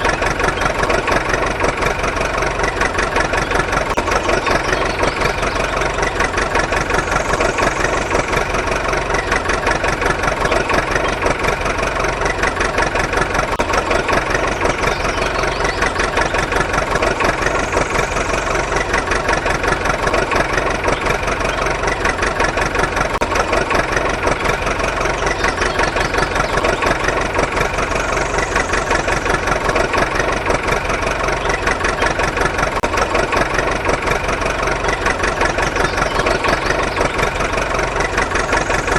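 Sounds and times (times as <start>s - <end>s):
engine idling with chug: 0.0s - 38.9s.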